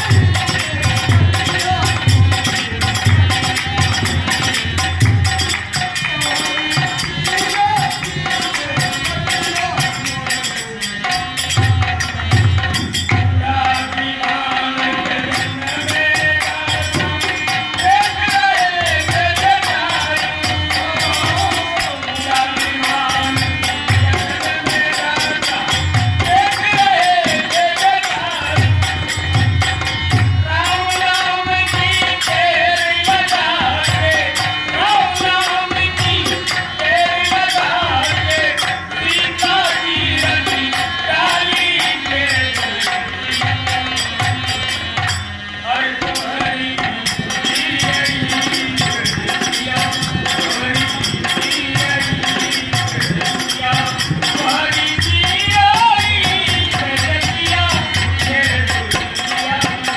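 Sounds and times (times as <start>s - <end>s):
rattling shaken percussion: 0.0s - 59.9s.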